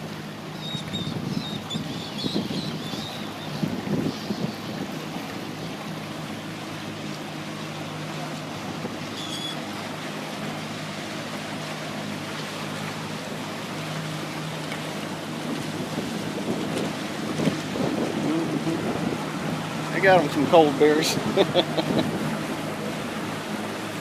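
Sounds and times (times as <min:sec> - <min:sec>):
motorboat engine running: 0:00.0 - 0:24.0
water rushing past: 0:00.0 - 0:24.0
wind: 0:00.0 - 0:24.0.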